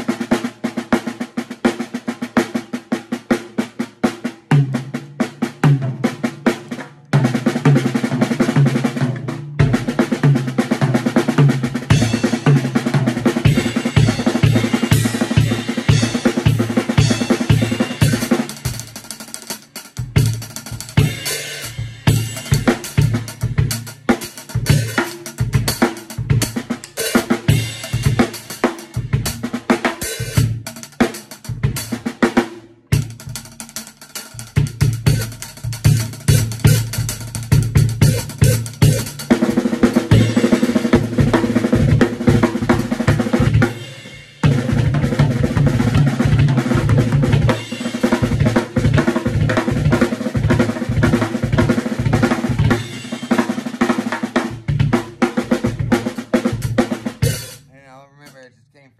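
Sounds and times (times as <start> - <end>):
drum kit playing: 0.0 - 58.9
bass drum beats: 8.6 - 32.0, 32.9 - 33.6, 34.3 - 53.2, 54.4 - 58.9.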